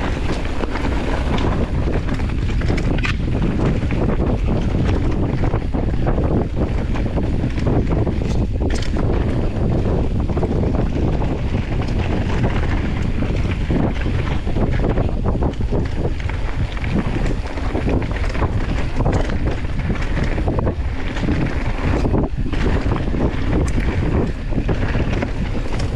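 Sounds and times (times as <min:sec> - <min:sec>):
bike clattering over rocks: 0:00.0 - 0:25.9
tyres rolling on dirt: 0:00.0 - 0:25.9
wind buffeting microphone: 0:00.0 - 0:25.9.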